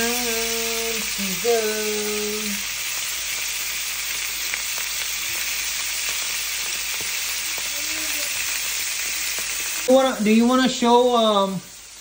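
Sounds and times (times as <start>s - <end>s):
kebabs sizzling in grill pan: 0.0s - 12.0s.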